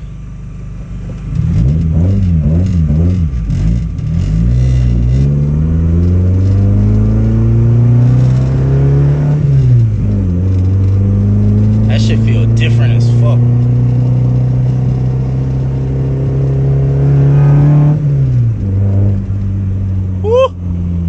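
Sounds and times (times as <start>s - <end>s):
car engine revving and accelerating: 1.0s - 21.0s.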